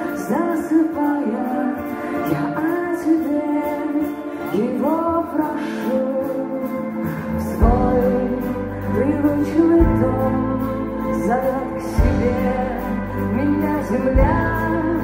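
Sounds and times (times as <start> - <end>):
live band playing slow music: 0.0 - 15.0.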